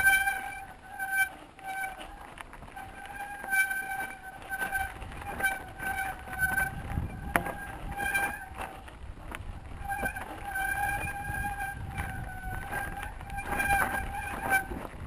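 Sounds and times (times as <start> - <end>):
short high squeal: 0.0 - 2.2, 2.8 - 8.6, 9.9 - 14.8
mountain bike rattling over stones: 0.0 - 15.0.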